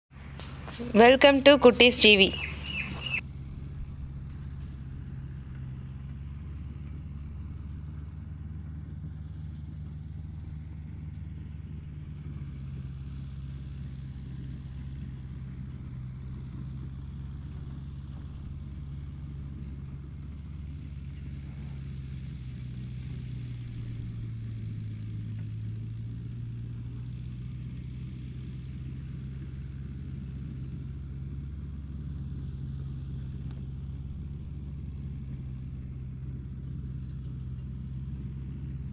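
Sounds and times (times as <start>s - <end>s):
low engine-like drone: 0.1s - 38.9s.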